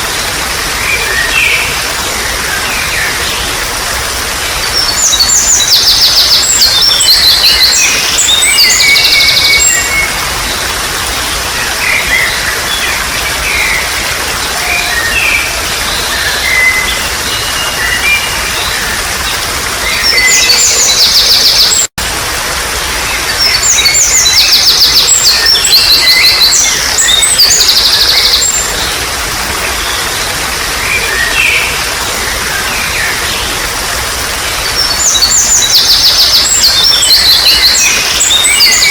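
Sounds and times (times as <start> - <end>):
songbirds trilling and chirping: 0.0 - 21.9, 22.9 - 38.9
running water trickling: 0.0 - 38.9.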